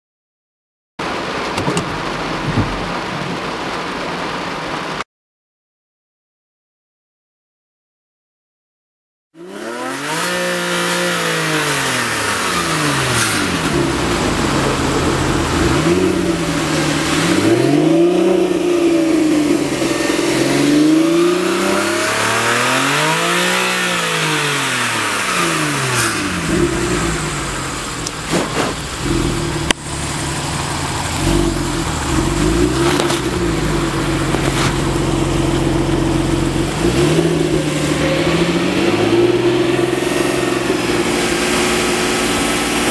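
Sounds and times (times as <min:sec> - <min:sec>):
car engine starting and revving: 0:01.0 - 0:05.0, 0:09.4 - 0:42.9.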